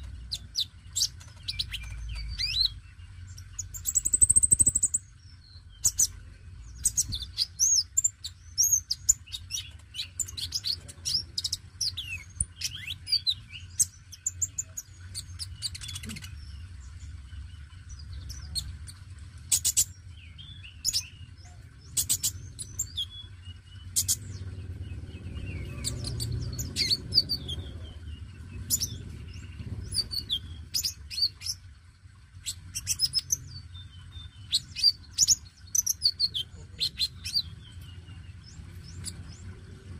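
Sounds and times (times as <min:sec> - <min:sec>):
sunbird singing high chirps: 0:00.0 - 0:31.6, 0:32.4 - 0:39.9.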